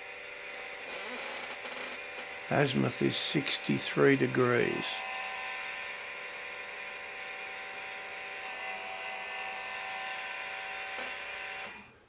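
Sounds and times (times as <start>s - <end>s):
motor whine: 0.0s - 12.0s.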